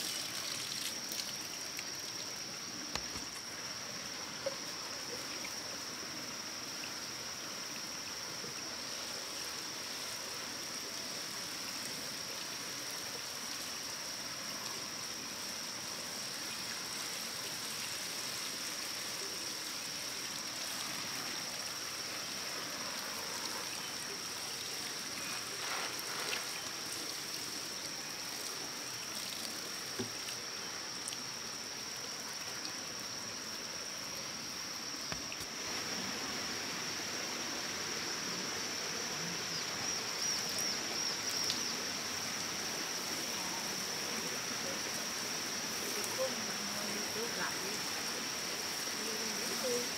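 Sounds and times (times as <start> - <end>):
stream water flowing: 0.0 - 49.9.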